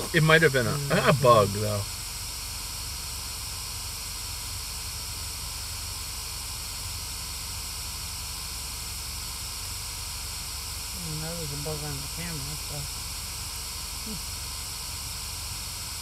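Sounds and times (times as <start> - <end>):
white noise static hiss: 0.0 - 16.0.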